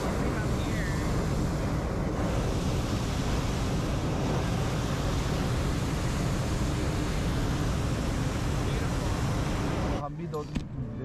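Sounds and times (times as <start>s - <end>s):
propane burner flame blast: 0.0s - 11.0s.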